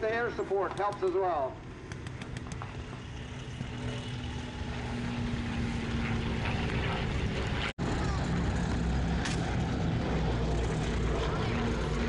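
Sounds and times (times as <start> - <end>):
propeller aircraft droning: 0.0 - 12.0.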